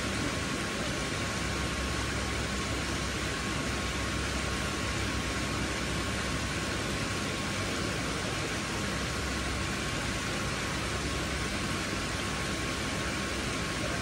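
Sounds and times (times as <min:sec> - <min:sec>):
pond water and pumps rushing: 0:00.0 - 0:14.0.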